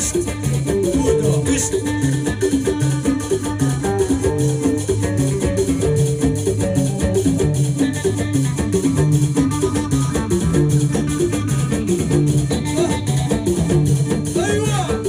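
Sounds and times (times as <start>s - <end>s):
plucked string melody: 0.0s - 14.4s
drum and hand percussion: 0.0s - 15.0s.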